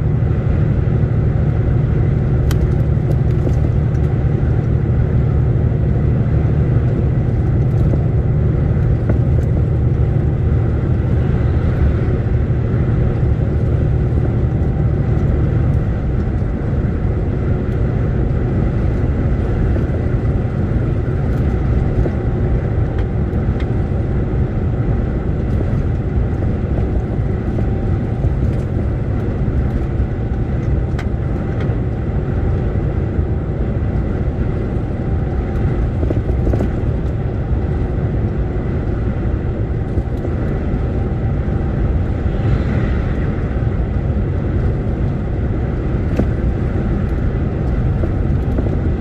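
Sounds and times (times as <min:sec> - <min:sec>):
lorry engine and road rumble: 0:00.0 - 0:49.0.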